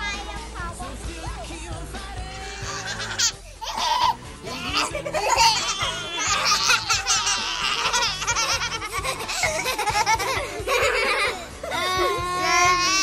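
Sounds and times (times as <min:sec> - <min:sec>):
background music with bass: 0:00.0 - 0:13.0
toddler laughing: 0:02.3 - 0:13.0.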